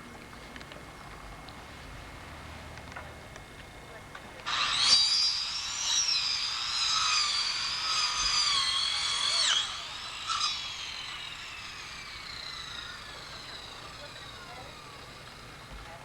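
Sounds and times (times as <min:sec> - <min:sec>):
power tool whine: 0:01.8 - 0:16.0.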